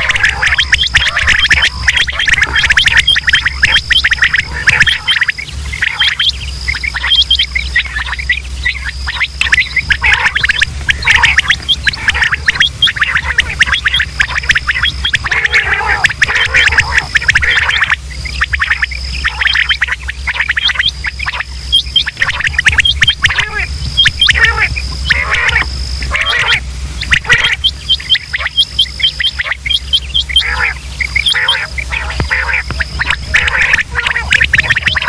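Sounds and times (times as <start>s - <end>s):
quail calling: 0.0s - 35.0s
steady low hum: 0.0s - 35.0s
thin high whistle-like tone: 0.0s - 35.0s.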